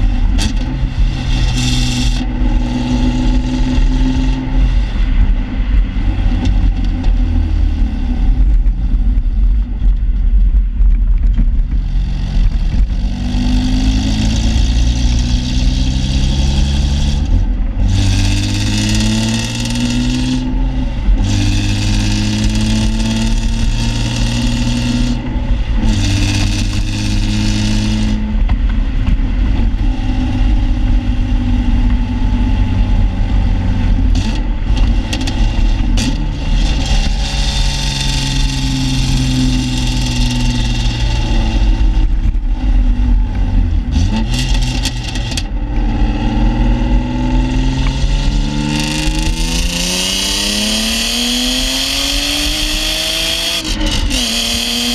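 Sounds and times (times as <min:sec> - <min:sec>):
car exhaust at low revs: 0:00.0 - 0:54.9.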